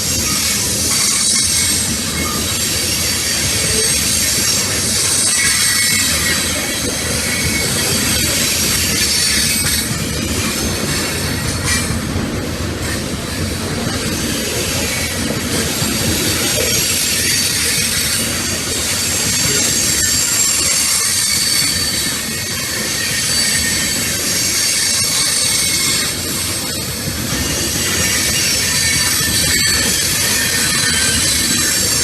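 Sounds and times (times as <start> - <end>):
high wheel squeals: 0.0 - 32.0
train wheels rolling on track: 0.0 - 32.0.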